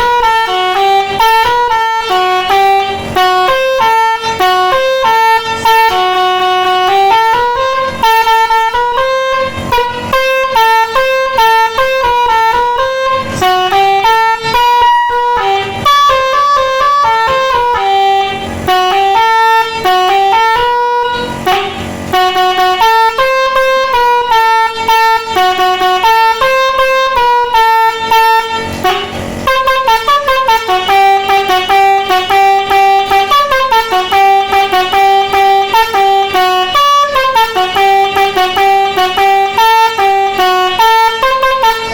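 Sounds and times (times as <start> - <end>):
electronic horn melody: 0.0 - 41.9.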